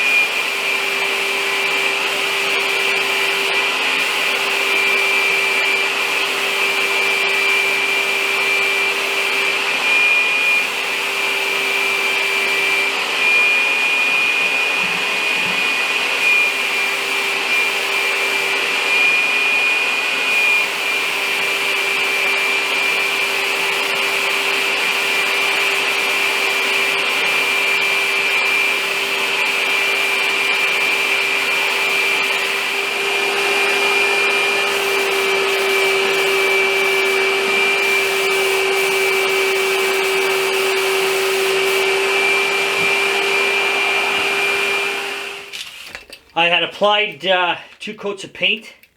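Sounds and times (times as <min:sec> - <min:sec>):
electric paint sprayer running: 0:00.0 - 0:46.1.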